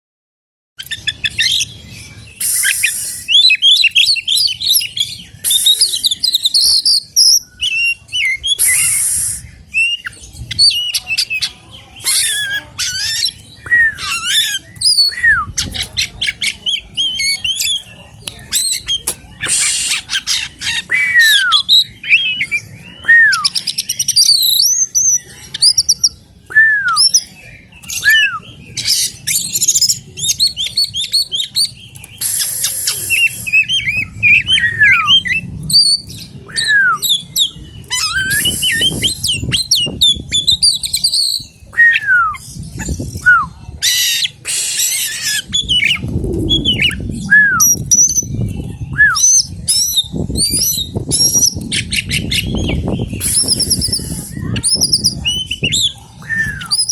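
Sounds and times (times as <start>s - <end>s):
bird singing varied song: 0.8s - 56.9s.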